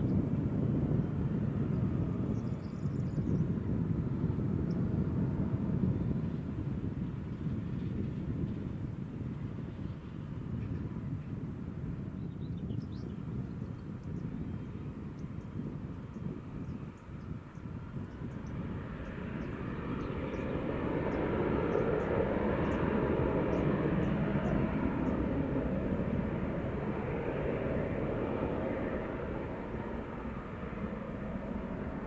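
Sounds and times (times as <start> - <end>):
jet engines roaring past: 0.0 - 32.0.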